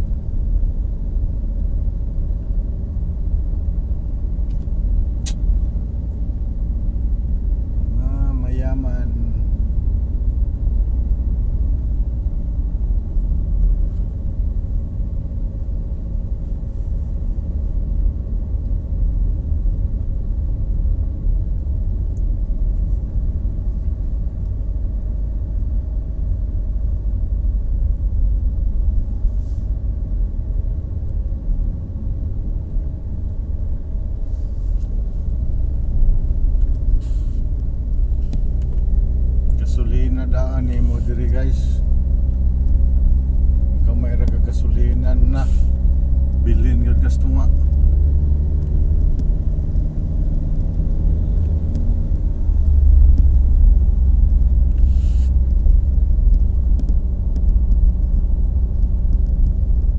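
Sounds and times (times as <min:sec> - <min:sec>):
car interior road rumble: 0:00.0 - 0:59.9
faint engine hum: 0:00.0 - 0:59.9.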